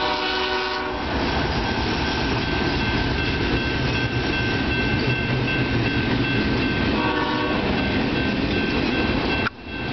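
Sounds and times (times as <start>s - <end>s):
steel wheels clattering on rail: 1.2s - 9.9s.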